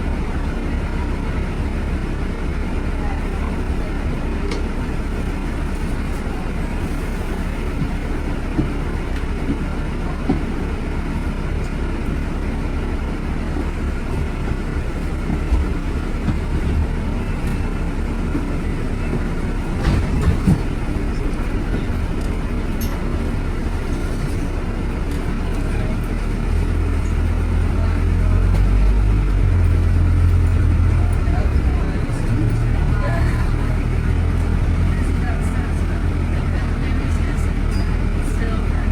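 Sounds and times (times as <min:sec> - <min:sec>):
traffic rumble: 0:00.0 - 0:38.9.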